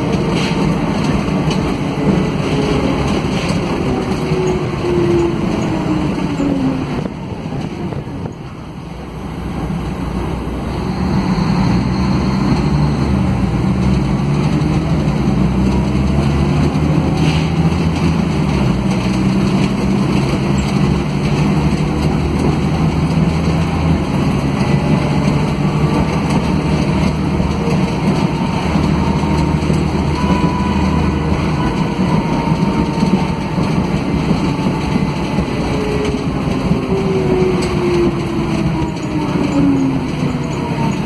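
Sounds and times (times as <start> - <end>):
bus diesel engine running: 0.0 - 41.0
road and cabin noise: 0.0 - 41.0.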